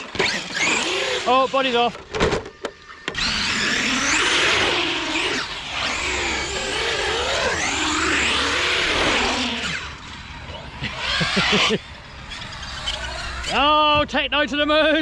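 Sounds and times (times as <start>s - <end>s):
electric motor whining: 0.0s - 1.8s, 2.4s - 13.8s.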